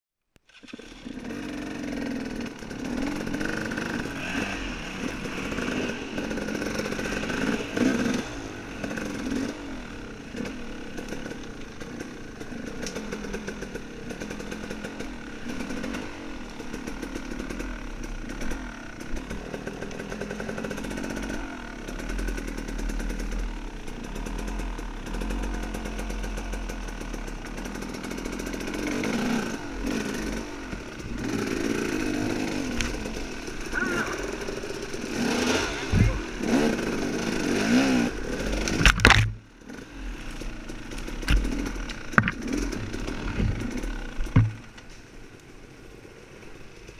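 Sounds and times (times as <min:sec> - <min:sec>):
dirt bike engine revving: 0:00.5 - 0:46.9.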